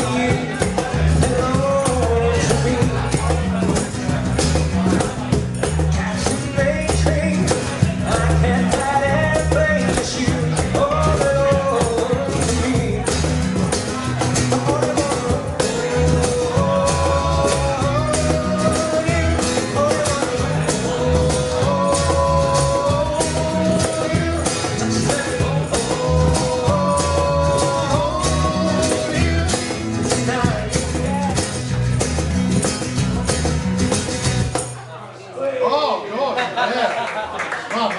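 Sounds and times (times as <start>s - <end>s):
cajon beat: 0.0s - 34.9s
live band playing: 0.0s - 34.9s
bass guitar: 0.0s - 35.0s
guitar: 0.0s - 35.4s.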